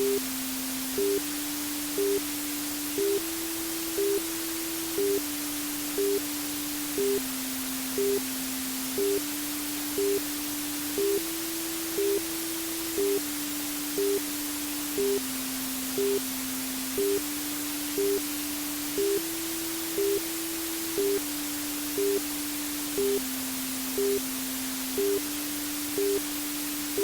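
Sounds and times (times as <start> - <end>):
white noise hiss: 0.0 - 27.0.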